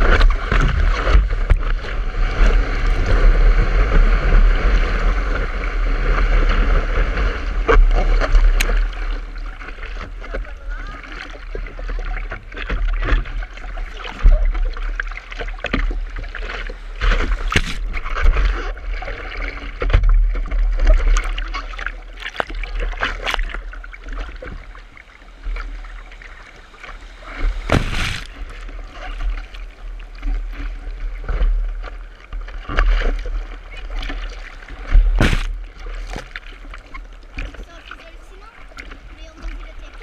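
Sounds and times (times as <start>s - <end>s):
sea water splashing: 0.0s - 40.0s
surf churning low rumble: 0.0s - 40.0s.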